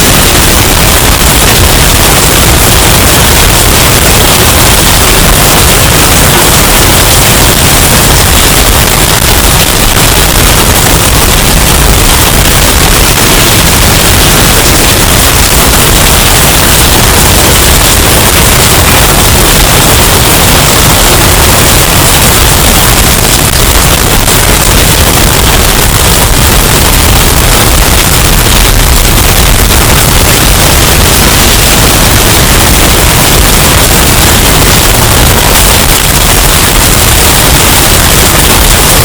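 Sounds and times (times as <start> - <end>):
distorted hurricane wind: 0.0 - 39.0.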